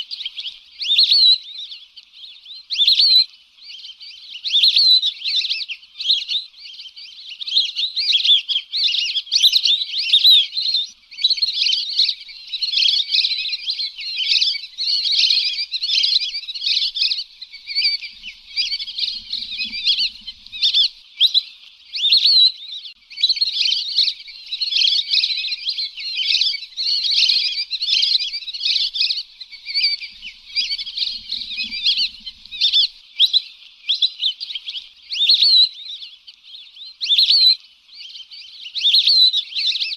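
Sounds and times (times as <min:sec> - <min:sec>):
whistling ducks calling: 0:00.0 - 0:39.9.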